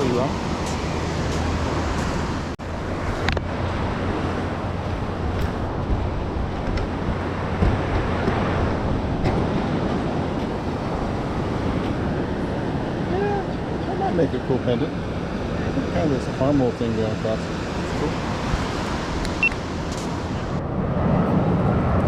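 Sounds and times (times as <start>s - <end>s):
ocean surf washing on beach: 0.0s - 22.0s
wind buffeting microphone: 0.0s - 22.0s.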